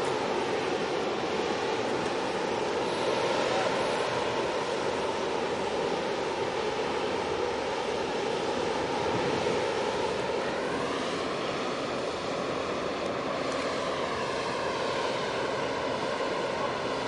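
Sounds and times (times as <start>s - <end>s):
large ship droning past: 0.0s - 17.0s.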